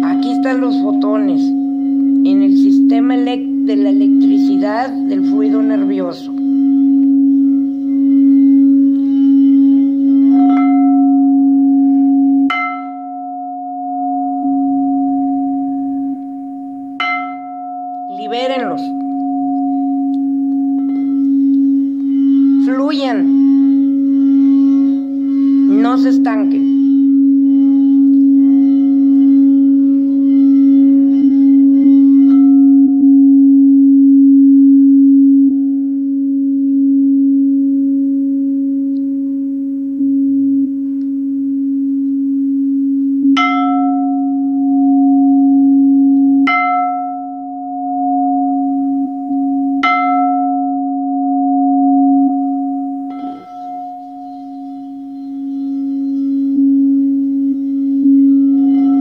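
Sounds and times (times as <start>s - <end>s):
singing bowl struck and ringing: 0.0s - 59.0s
singing bowl sustained tone: 0.0s - 59.0s.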